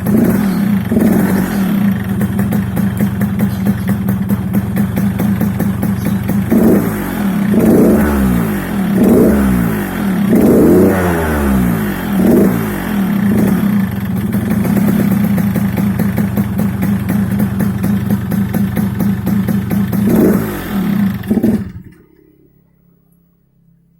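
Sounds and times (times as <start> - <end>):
motorcycle engine revving and idling: 0.0 - 22.7.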